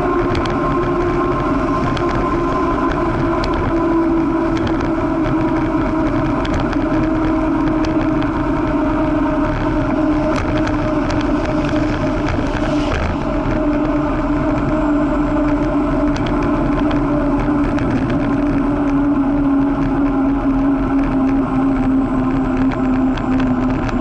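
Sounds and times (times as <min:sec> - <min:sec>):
bicycle tyres rolling on asphalt: 0:00.0 - 0:24.0
continuous hum: 0:00.0 - 0:24.0
wind on microphone: 0:00.0 - 0:24.0.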